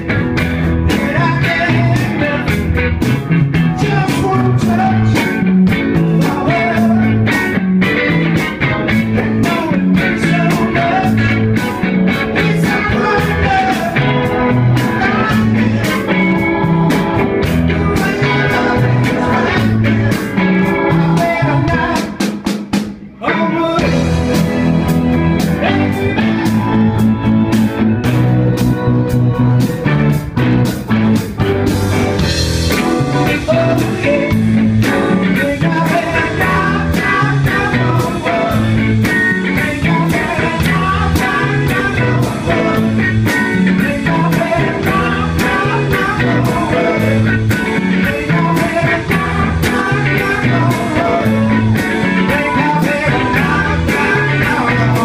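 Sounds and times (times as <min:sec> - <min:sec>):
bass guitar: 0:00.0 - 0:55.0
drum kit beat: 0:00.0 - 0:55.0
electric guitars: 0:00.0 - 0:55.0
keyboards: 0:00.0 - 0:55.0
man singing: 0:00.8 - 0:07.6, 0:08.9 - 0:22.4, 0:23.1 - 0:27.0, 0:33.2 - 0:55.0.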